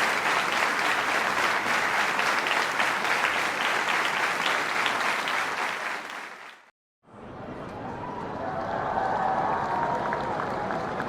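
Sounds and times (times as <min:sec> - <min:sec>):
large crowd applauding: 0:00.0 - 0:06.7, 0:08.6 - 0:11.0.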